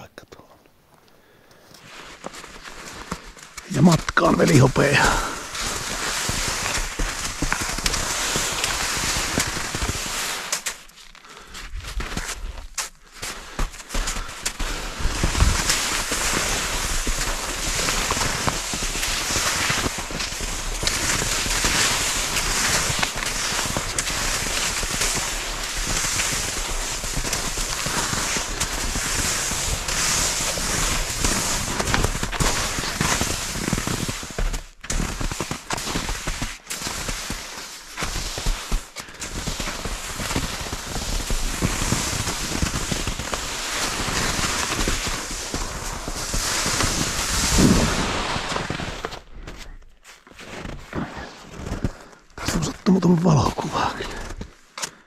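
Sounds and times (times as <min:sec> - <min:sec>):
skis crunching over snow: 0:01.8 - 0:55.0.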